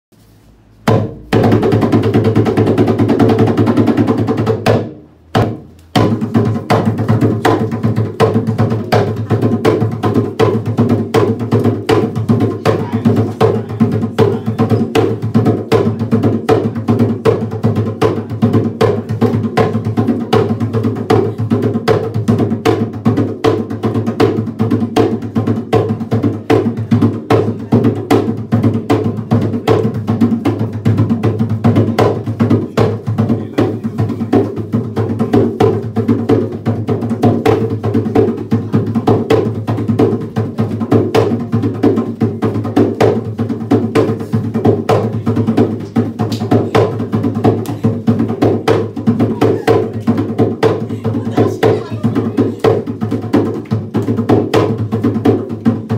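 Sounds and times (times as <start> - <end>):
hand drums fast rhythm: 0.8 - 55.9.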